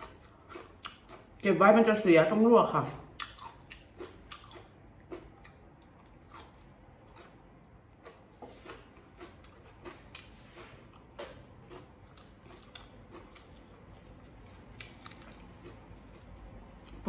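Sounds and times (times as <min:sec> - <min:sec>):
person chewing food: 0:00.0 - 0:01.4, 0:02.9 - 0:17.0.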